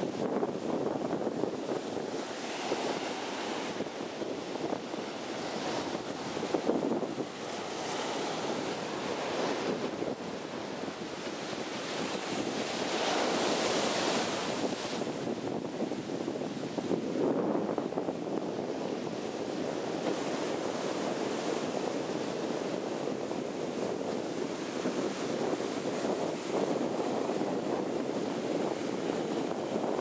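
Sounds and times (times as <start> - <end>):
ocean surf breaking on beach: 0.0 - 30.0
wind buffeting microphone: 0.0 - 30.0.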